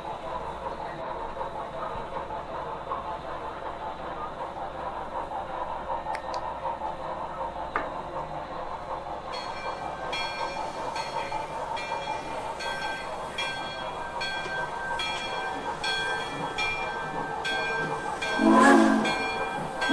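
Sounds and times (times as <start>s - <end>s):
model steam locomotive sounds: 0.0s - 19.9s.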